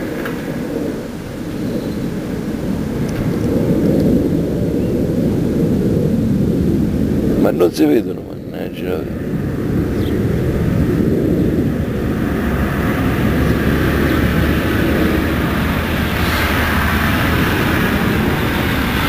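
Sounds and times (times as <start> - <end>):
jet aircraft rumble: 0.0 - 19.0.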